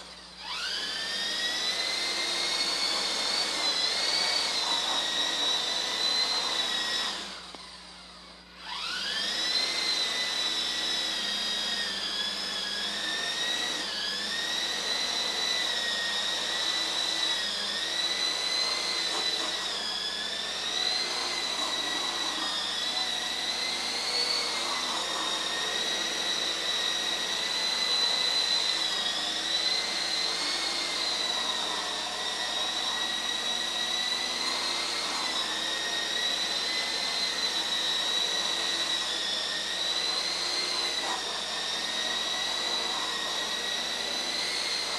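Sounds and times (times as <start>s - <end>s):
toy helicopter rotors whining: 0.0s - 44.9s.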